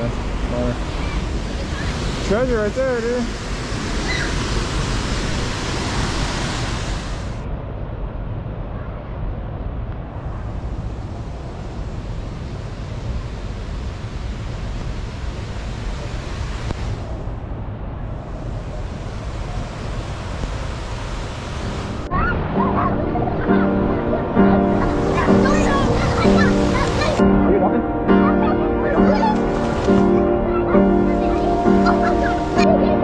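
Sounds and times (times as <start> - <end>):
waterfall rushing: 0.0 - 7.4, 12.2 - 33.0.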